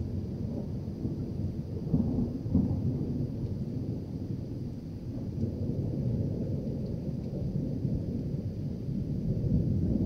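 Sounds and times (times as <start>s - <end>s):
rolling thunder: 0.0s - 10.0s.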